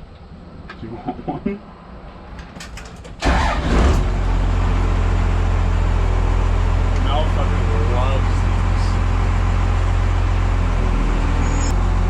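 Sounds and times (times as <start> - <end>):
vehicle engine starting and idling: 2.3 - 12.0.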